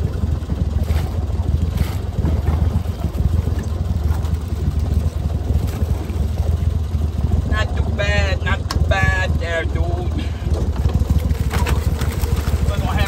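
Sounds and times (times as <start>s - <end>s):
low rumble on open water: 0.0s - 13.0s.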